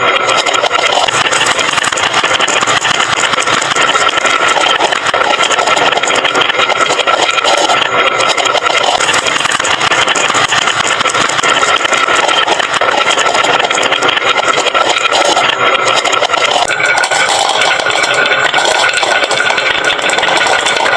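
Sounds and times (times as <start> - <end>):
marbles rattling down wooden run: 0.0 - 20.9.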